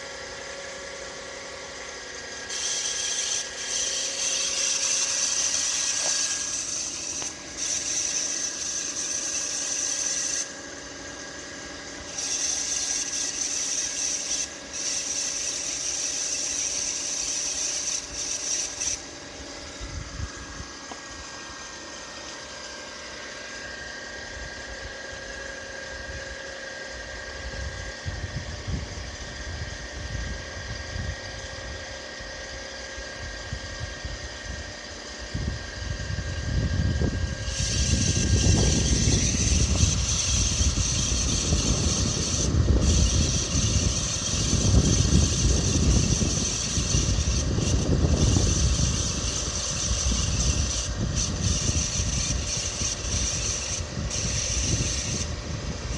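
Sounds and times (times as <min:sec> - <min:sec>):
thin whining tones: 0:00.0 - 0:55.9.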